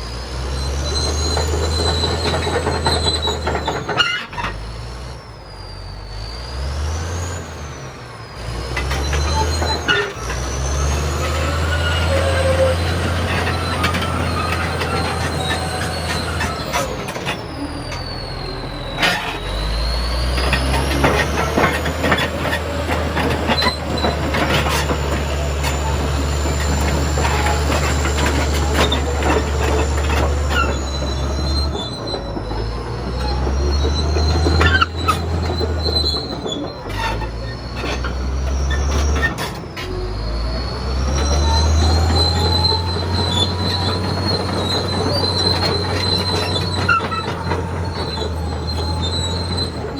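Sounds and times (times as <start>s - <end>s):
bulldozer diesel engine droning: 0.0s - 49.9s
steel tracks squealing: 0.0s - 49.9s
track clanking and clicking: 0.0s - 49.9s.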